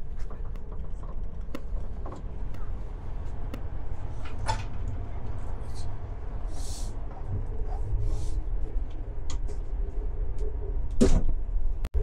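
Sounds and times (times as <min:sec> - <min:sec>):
train rumble from inside carriage: 0:00.0 - 0:12.0.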